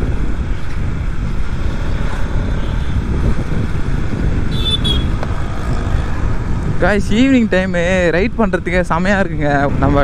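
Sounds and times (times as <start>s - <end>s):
motorcycle engine: 0.0s - 8.1s
road noise: 0.0s - 10.0s
wind rush on microphone: 0.0s - 10.0s.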